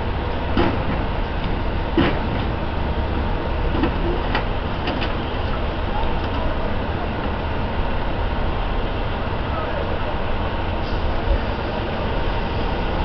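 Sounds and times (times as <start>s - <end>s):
fire engine idling: 0.0s - 13.0s.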